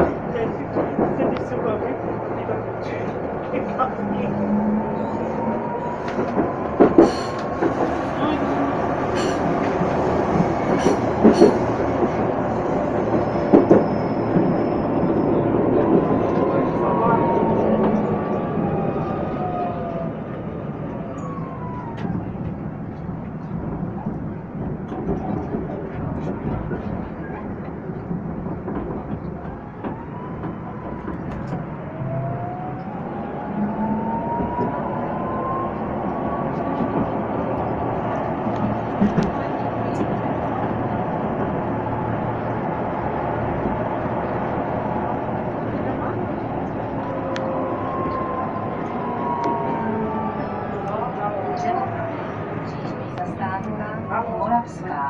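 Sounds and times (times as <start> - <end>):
tram wheels rumbling on rails: 0.0 - 55.0
tram motor whine rising in pitch: 3.6 - 22.9, 29.4 - 54.2.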